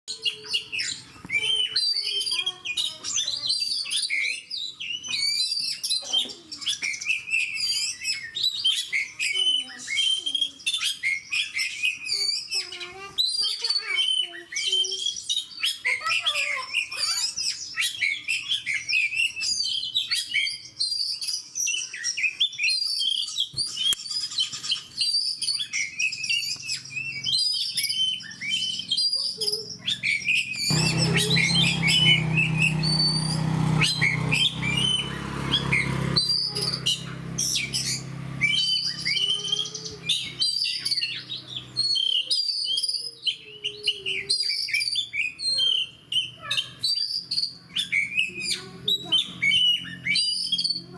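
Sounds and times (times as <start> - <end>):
magpie-robin singing: 0.1 - 50.9.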